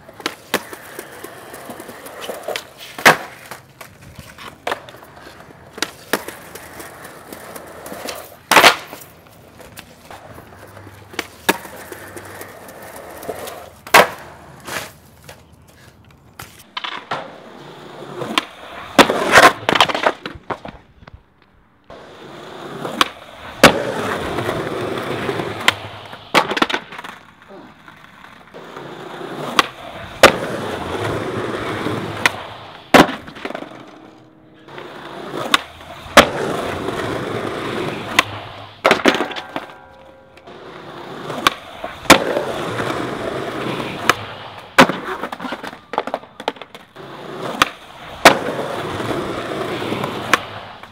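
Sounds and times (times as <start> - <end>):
skateboard clacking on ground: 0.0 - 50.9
skateboard wheels rolling on concrete: 0.0 - 50.9.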